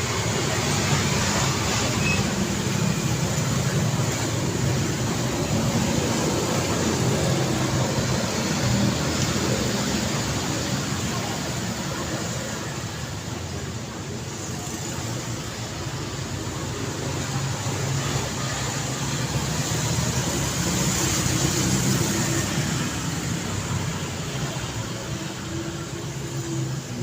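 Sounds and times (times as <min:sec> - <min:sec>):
city road traffic: 0:00.0 - 0:27.0.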